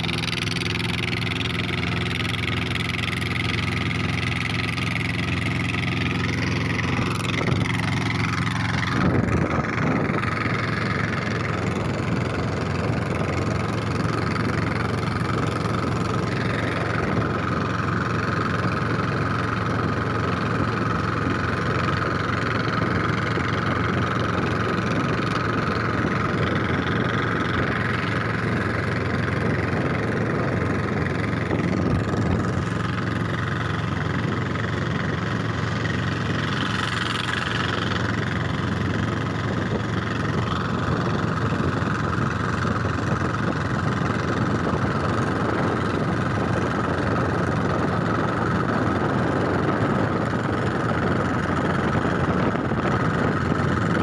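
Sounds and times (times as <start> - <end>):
diesel boat engine running: 0.0 - 54.0
water and wind noise: 0.0 - 54.0.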